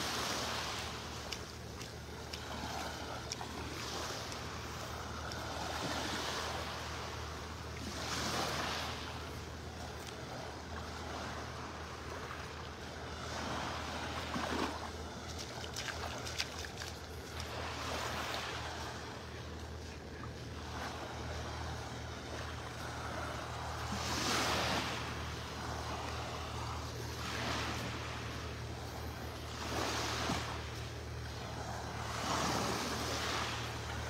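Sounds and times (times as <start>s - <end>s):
small waves washing on beach: 0.0s - 34.0s.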